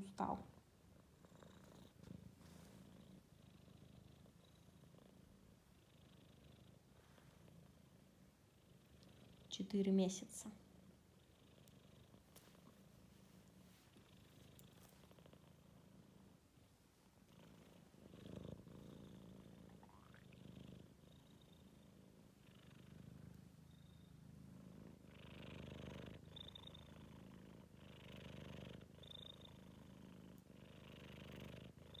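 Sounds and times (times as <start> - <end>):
kitten purring: 0.0 - 32.0.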